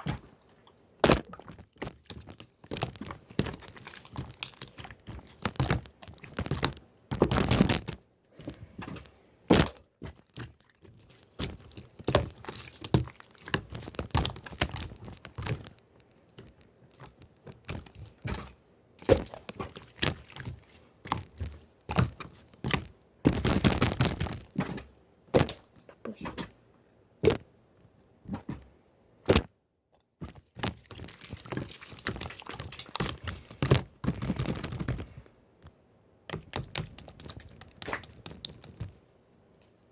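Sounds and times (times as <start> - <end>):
slime squished by hand: 0.0 - 26.5, 30.4 - 35.2, 36.3 - 39.0.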